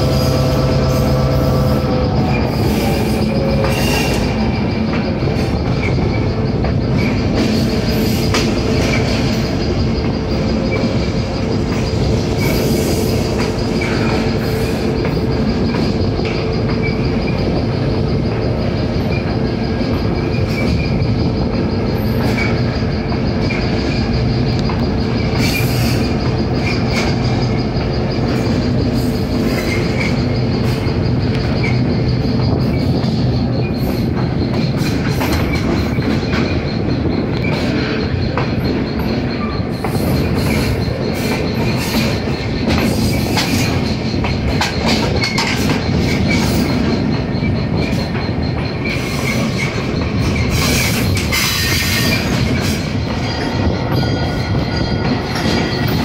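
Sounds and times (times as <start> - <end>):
diesel locomotive engine under load: 0.0 - 56.0
wheels clicking over rail joints: 0.0 - 56.0.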